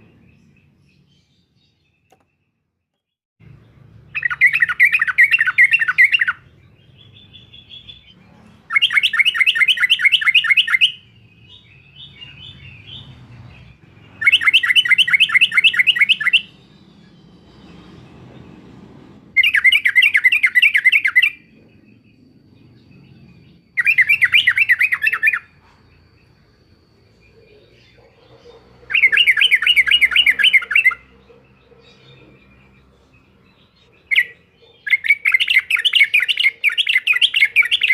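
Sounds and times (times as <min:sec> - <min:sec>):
soft bird calls: 0:00.0 - 0:37.9.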